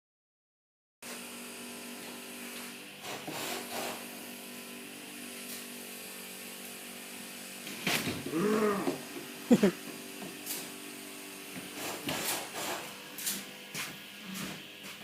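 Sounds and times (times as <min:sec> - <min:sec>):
small motor humming: 0:01.1 - 0:14.9.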